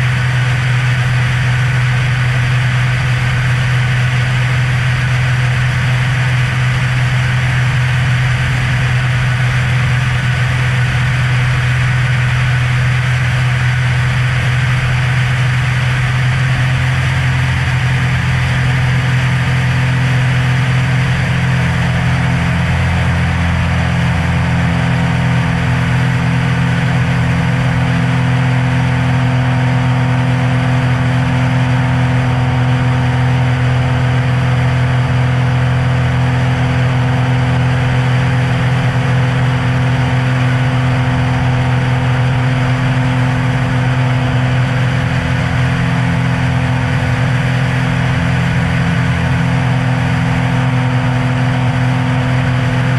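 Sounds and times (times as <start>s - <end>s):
airplane engine drone: 0.0s - 52.9s.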